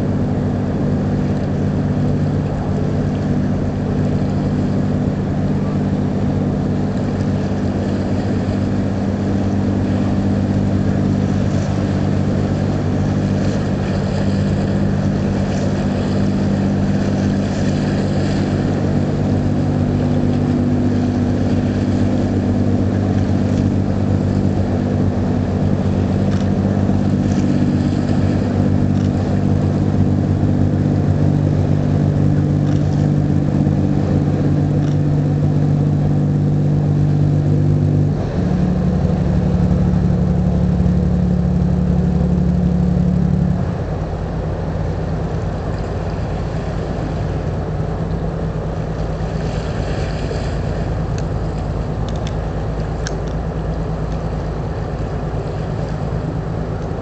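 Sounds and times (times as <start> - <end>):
ship engine droning: 0.0 - 57.0.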